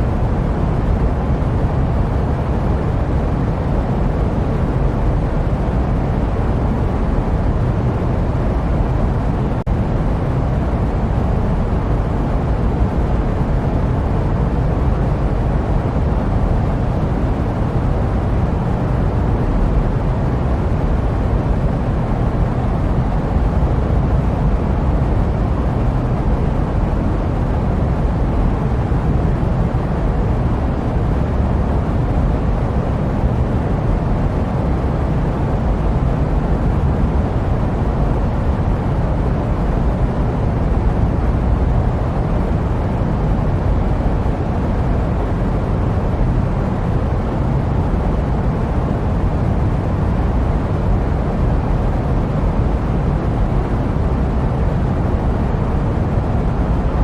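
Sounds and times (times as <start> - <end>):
jet airliner rumble: 0.0 - 57.0.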